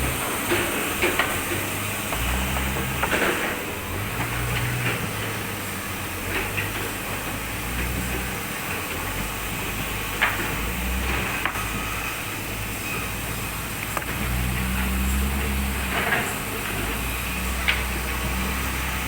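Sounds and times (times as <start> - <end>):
sawmill machinery drone: 0.0 - 19.0.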